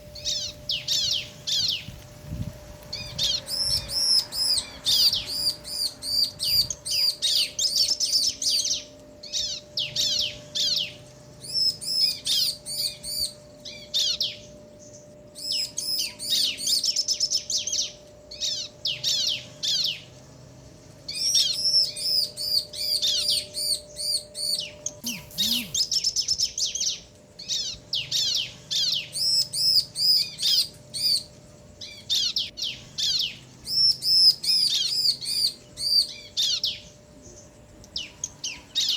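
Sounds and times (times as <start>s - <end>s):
birds' rapid high chirps: 0.0s - 20.1s, 20.7s - 38.9s.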